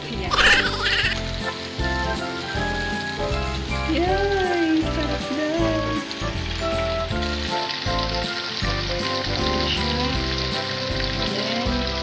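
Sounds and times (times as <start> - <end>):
background music with bass line: 0.0 - 12.0
onions sizzling in hot oil: 0.0 - 12.0.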